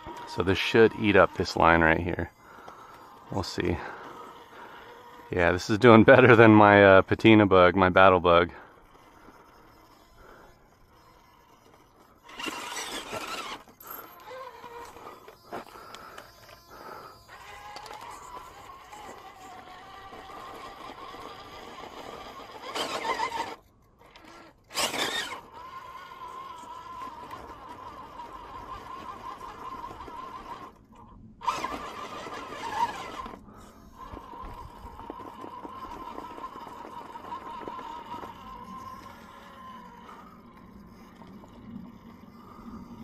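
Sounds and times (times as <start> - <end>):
electric motor and gears whining: 0.0 - 43.0.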